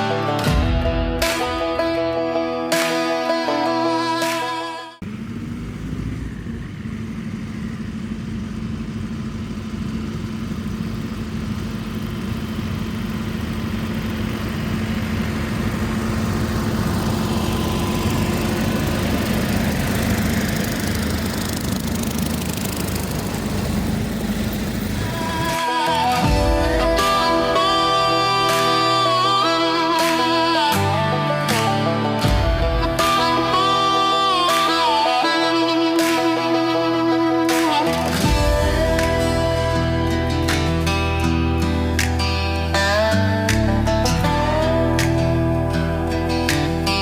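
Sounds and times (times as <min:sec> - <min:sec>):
tractor engine running: 0:05.0 - 0:47.0.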